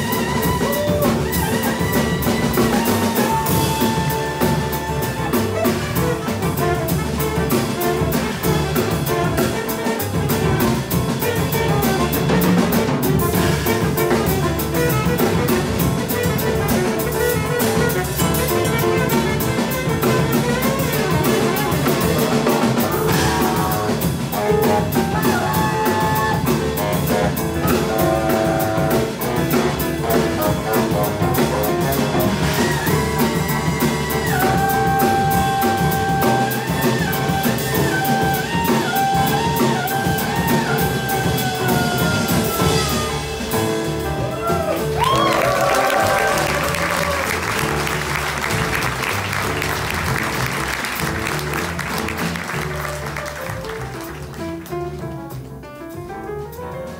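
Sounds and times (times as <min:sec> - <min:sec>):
saxophone: 0:00.0 - 0:55.1
drum kit with busy cymbals: 0:00.0 - 0:56.9
grand piano: 0:00.0 - 0:56.9
upright bass: 0:00.0 - 0:56.9.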